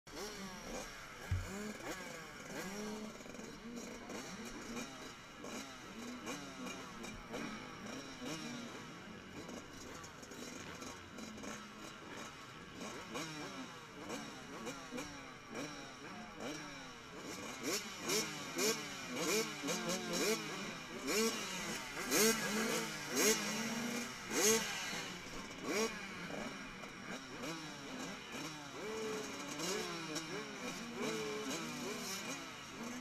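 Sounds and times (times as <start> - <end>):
motocross bikes revving: 0.1 - 33.0.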